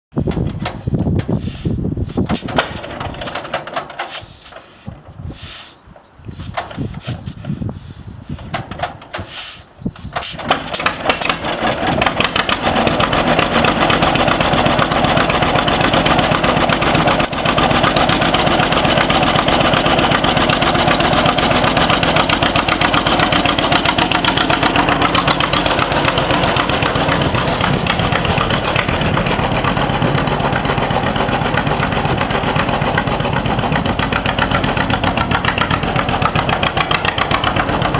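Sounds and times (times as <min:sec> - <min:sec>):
tractor engine starting and running: 0:00.1 - 0:37.9.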